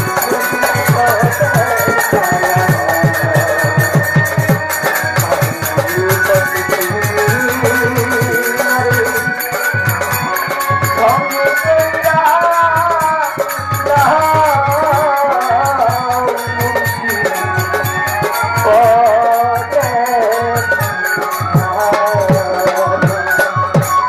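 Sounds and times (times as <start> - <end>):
hand drums beat: 0.0 - 24.0
violin folk melody: 0.0 - 24.0.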